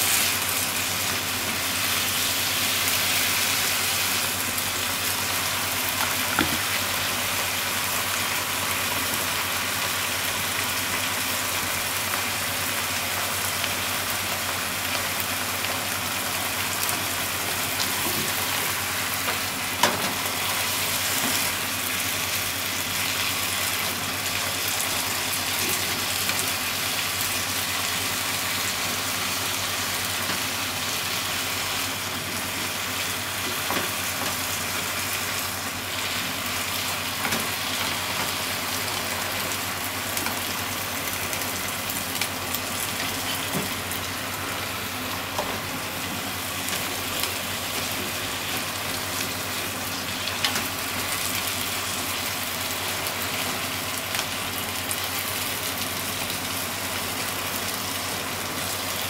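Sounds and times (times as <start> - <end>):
food sizzling in a frying pan: 0.0 - 59.0.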